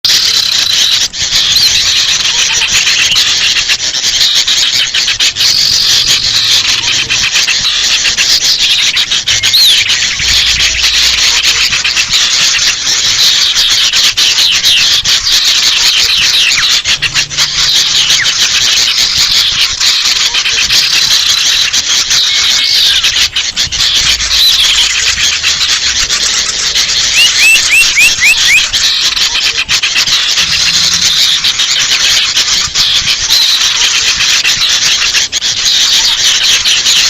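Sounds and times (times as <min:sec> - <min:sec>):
bird alarm calls: 0:00.0 - 0:37.0
bulbuls chattering: 0:00.0 - 0:37.0.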